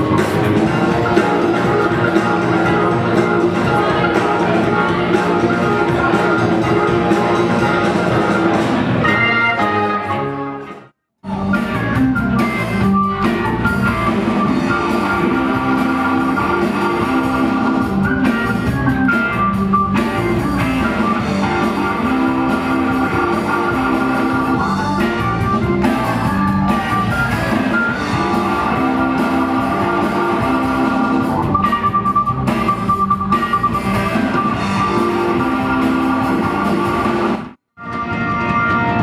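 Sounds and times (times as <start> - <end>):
drum kit: 0.0 - 39.0
electric guitar: 0.0 - 39.0
organ: 0.0 - 39.0.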